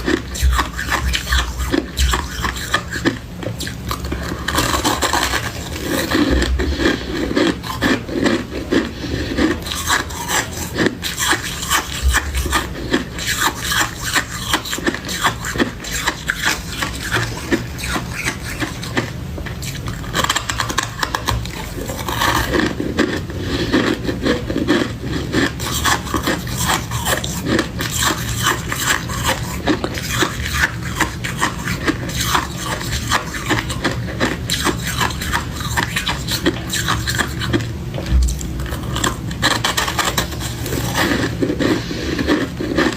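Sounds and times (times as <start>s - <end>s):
freezer frost crunching and scraping: 0.0s - 42.9s.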